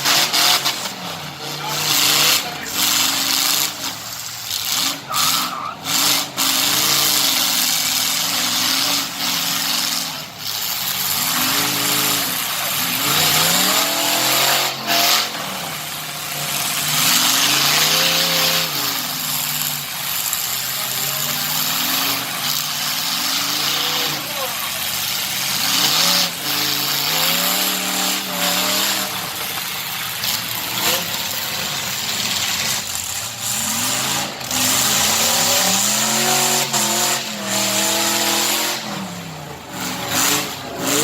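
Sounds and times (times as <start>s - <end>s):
truck engine revving: 0.0s - 41.0s.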